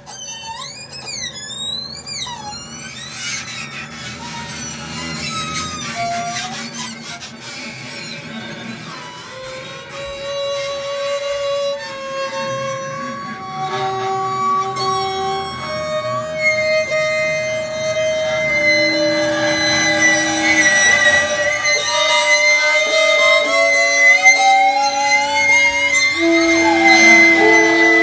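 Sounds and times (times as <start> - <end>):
experimental ensemble music: 0.0 - 28.0
bowed strings held notes: 0.1 - 28.0.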